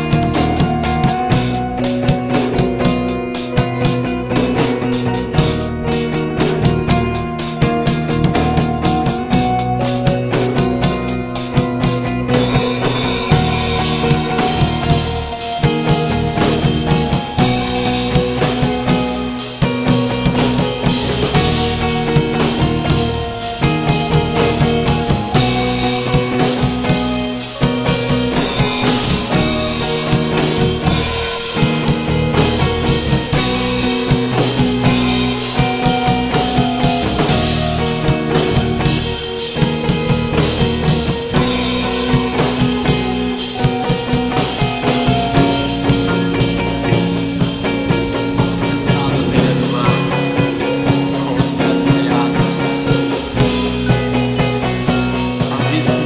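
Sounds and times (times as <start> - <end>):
distorted guitars: 0.0 - 56.0
drum kit with cymbals and snare: 0.0 - 56.0.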